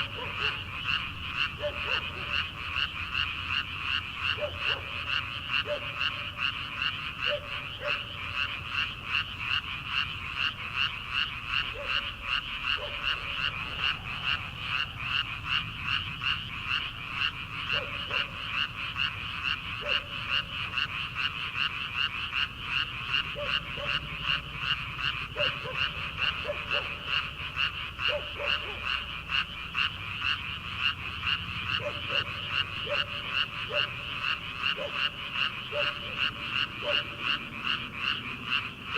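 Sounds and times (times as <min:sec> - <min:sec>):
frogs croaking in chorus: 0:00.0 - 0:38.9
lower-pitched frog call: 0:00.0 - 0:38.9.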